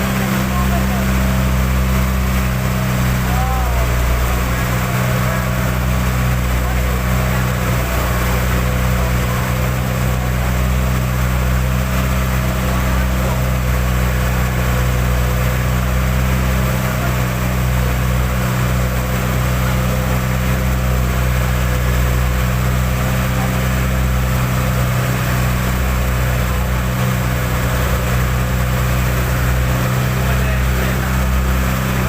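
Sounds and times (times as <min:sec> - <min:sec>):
boat engine drone: 0:00.0 - 0:32.0.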